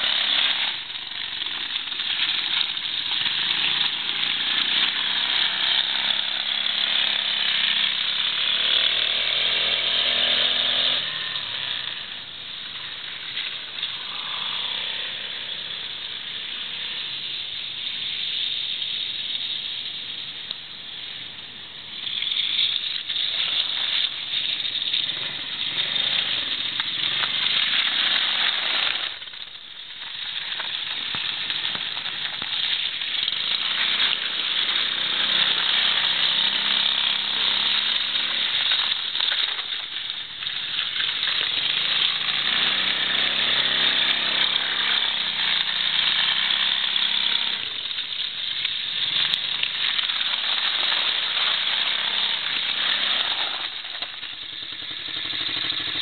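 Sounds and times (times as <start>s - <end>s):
quad engine revving: 0.0s - 0.9s, 1.5s - 17.3s, 22.2s - 29.2s, 31.5s - 39.6s, 40.5s - 56.0s.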